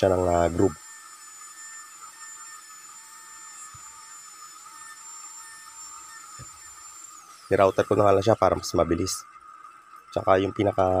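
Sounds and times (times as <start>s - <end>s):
router whining: 0.0s - 11.0s.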